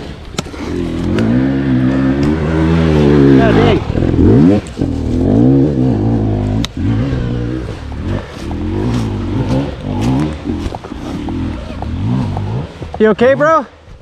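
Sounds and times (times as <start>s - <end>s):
dirt bike engine revving: 0.6s - 13.5s.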